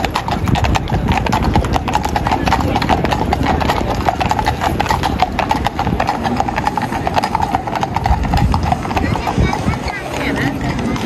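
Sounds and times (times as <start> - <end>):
horses' hooves clip-clopping: 0.0 - 11.0.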